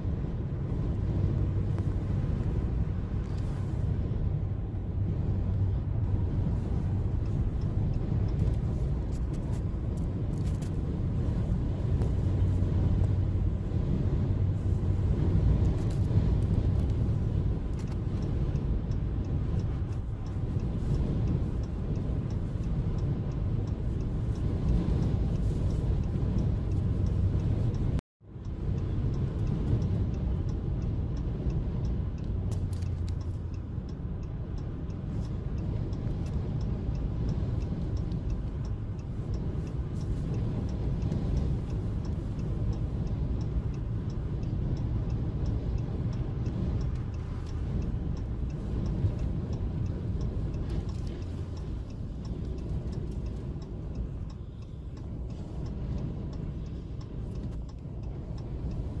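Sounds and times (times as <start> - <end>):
wind and road noise inside vehicle: 0.0 - 59.0
faint even ticking: 0.8 - 59.0.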